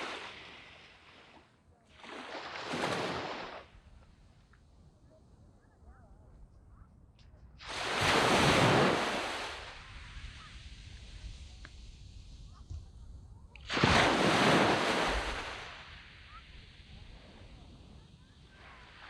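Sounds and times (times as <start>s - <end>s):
waves breaking on beach: 0.0s - 4.0s, 7.6s - 19.0s.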